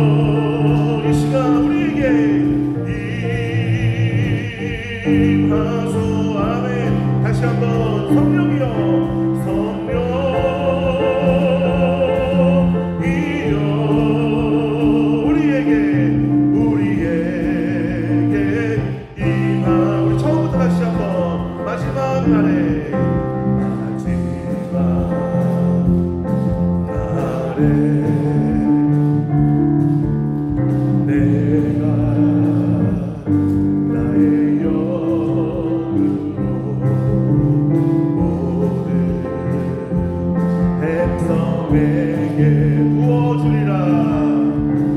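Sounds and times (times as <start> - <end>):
drum kit: 0.0 - 44.9
keyboard: 0.0 - 44.9.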